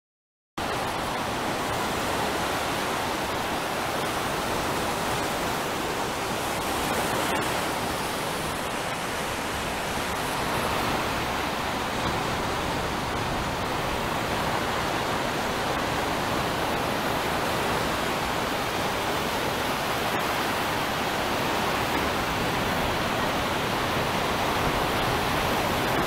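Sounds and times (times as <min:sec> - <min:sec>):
ocean waves washing in: 0:00.6 - 0:26.0.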